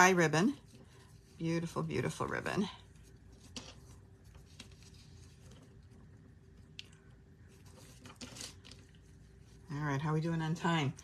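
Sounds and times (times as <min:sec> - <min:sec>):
ribbon rustling: 0:00.0 - 0:06.6, 0:07.4 - 0:09.8
steady low hum: 0:00.0 - 0:11.0.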